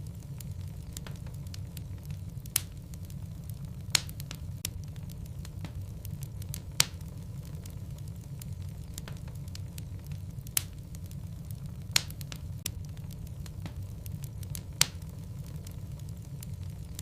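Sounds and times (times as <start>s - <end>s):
burning wood popping: 0.0s - 17.0s
fire crackling: 0.0s - 17.0s
low rumble of flame: 0.0s - 17.0s.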